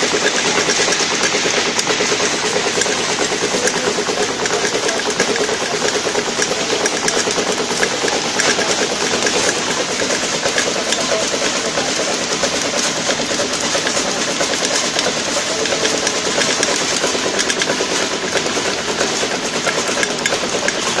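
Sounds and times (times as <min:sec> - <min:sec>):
packing machine clattering: 0:00.0 - 0:21.0.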